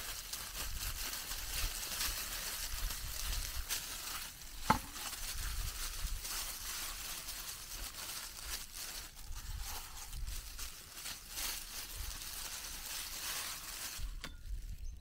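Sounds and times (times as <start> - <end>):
plastic gloves crinkling and squelching: 0.0 - 15.0.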